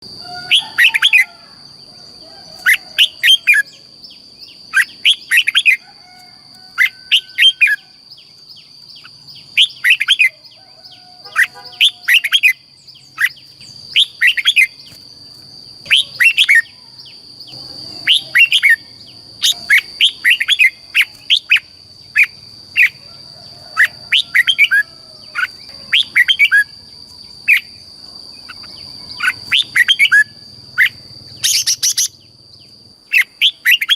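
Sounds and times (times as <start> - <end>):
bird chirping song: 0.0 - 33.9.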